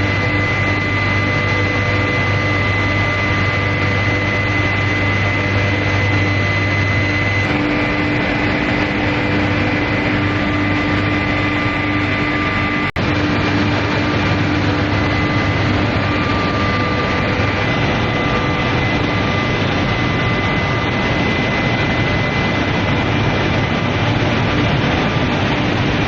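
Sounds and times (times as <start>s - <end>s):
high steady whine: 0.0s - 26.0s
loud industrial noise: 0.0s - 26.0s.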